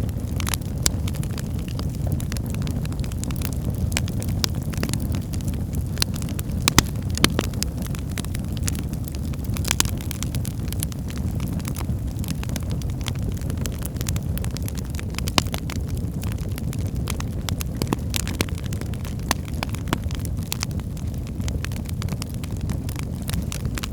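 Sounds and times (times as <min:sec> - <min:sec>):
logs crackling and popping: 0:00.0 - 0:23.9
low rumble of flames: 0:00.0 - 0:23.9.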